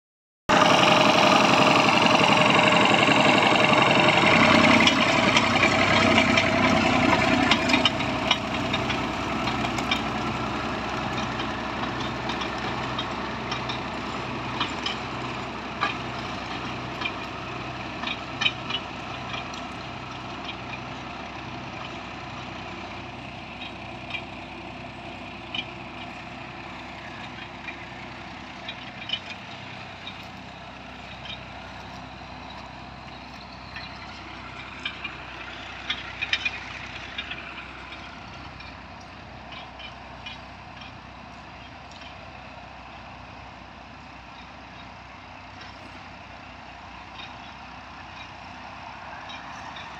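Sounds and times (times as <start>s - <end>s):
tractor engine under load: 0.5s - 49.9s.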